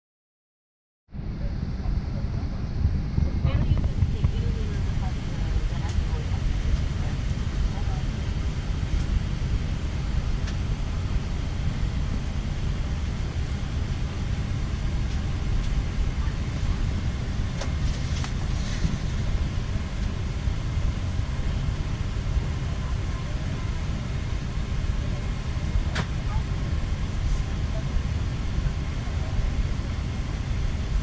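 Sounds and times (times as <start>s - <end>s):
aircraft ventilation hum: 1.1s - 31.0s
airliner cabin rumble: 1.1s - 31.0s.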